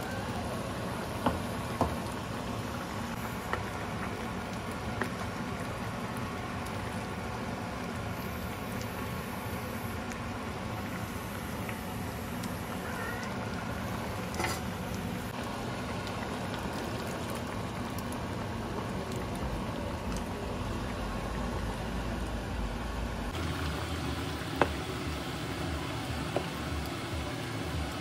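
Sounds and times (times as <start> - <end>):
pork sizzling and bubbling in a wok: 0.0 - 28.0.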